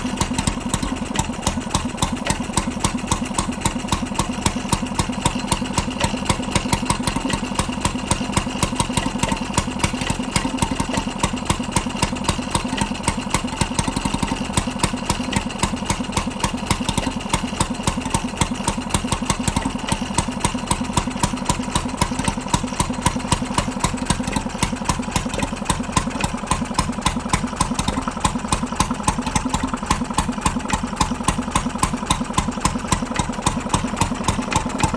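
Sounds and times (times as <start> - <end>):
stationary engine idling: 0.0 - 34.9.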